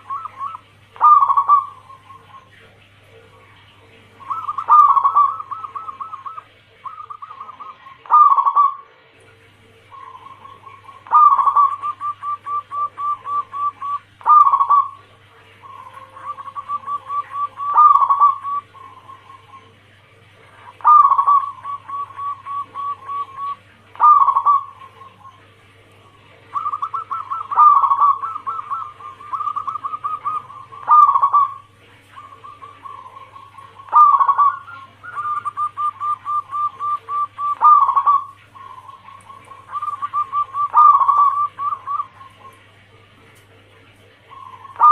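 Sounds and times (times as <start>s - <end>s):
doves cooing: 0.0s - 44.9s
steady low hum: 0.0s - 44.9s.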